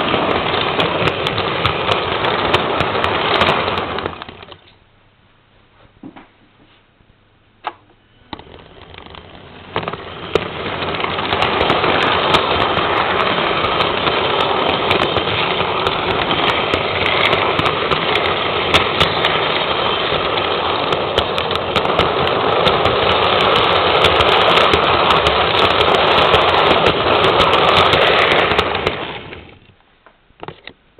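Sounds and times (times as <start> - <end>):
model train running on track: 0.0 - 4.6, 8.3 - 29.6.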